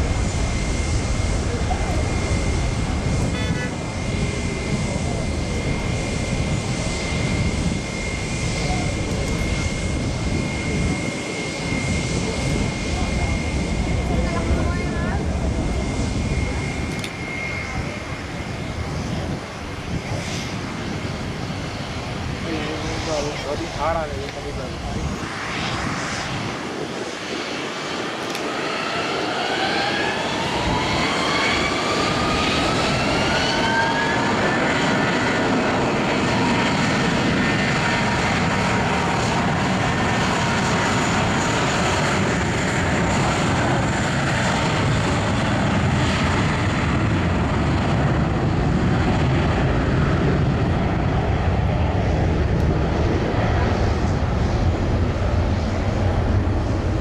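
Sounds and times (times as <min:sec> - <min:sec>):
jet engines spooling up: 0:00.0 - 0:57.0.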